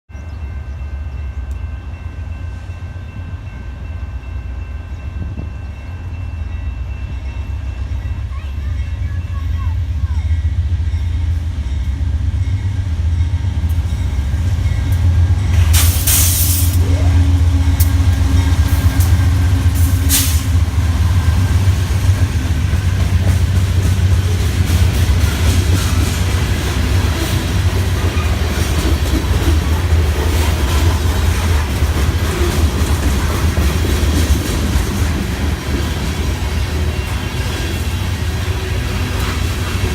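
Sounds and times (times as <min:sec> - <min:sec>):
diesel locomotive rumble: 0:00.2 - 0:39.9
train wheels on rails: 0:00.2 - 0:39.9.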